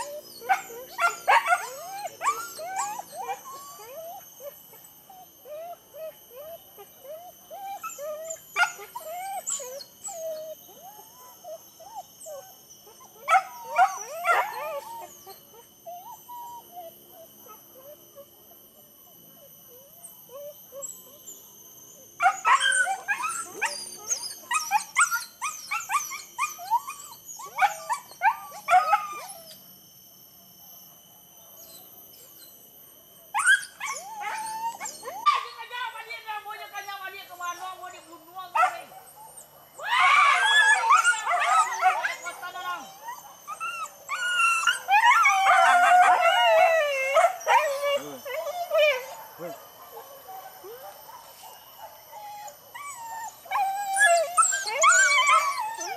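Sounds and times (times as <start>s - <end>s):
dogs yelping and barking: 0.0s - 29.7s, 31.6s - 35.9s, 38.5s - 55.9s.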